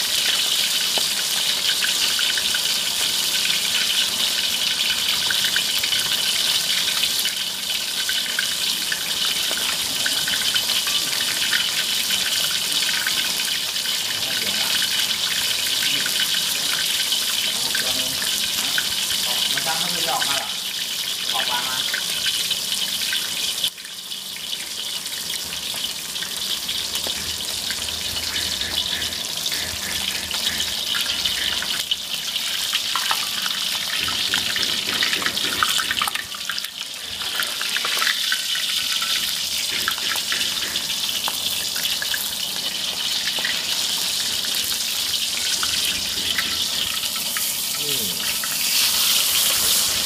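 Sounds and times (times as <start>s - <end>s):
fish sizzling in hot oil: 0.0s - 50.0s.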